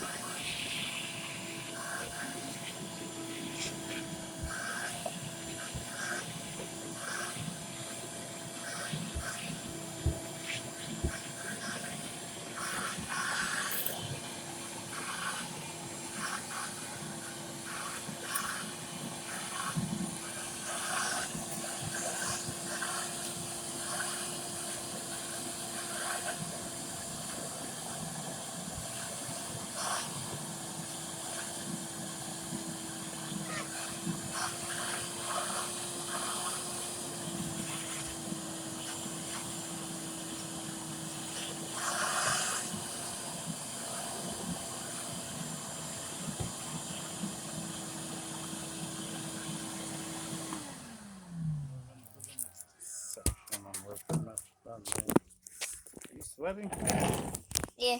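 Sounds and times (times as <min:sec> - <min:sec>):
pressure washer motor hum: 0:00.0 - 0:52.0.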